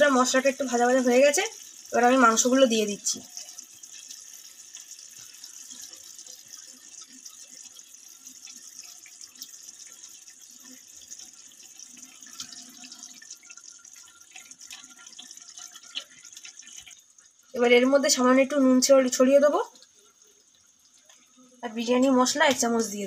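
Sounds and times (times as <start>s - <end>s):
paste sizzling in hot oil: 0.0s - 23.0s.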